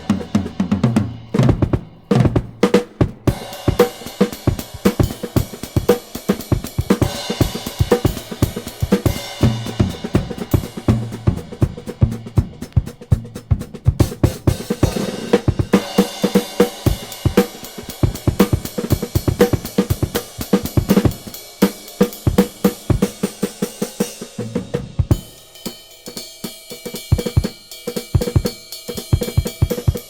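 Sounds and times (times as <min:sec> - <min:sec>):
drum-heavy music from vinyl: 0:00.0 - 0:30.0
kit drums and cymbals beat: 0:00.0 - 0:30.0.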